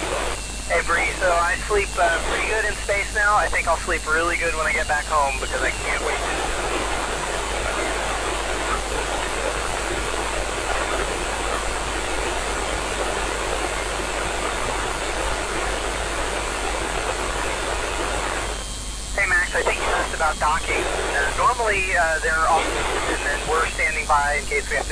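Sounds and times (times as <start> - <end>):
radio static hiss: 0.0 - 24.9.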